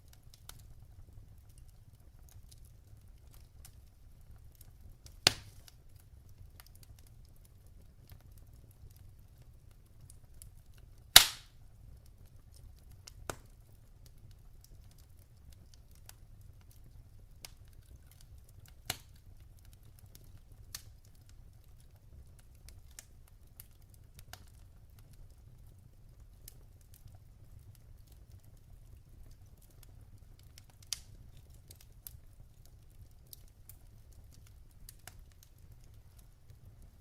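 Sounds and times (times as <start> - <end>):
burning logs popping: 0.0 - 37.0
fire crackling: 0.0 - 37.0.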